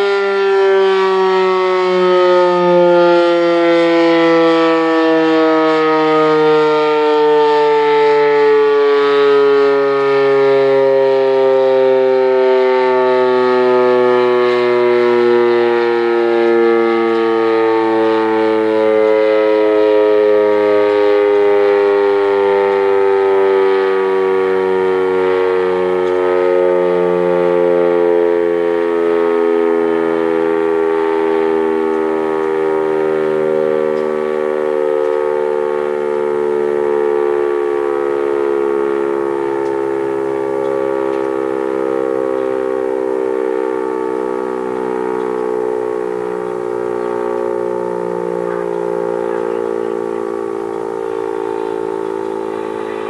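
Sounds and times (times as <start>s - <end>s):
warning siren steady tone: 0.0s - 53.0s.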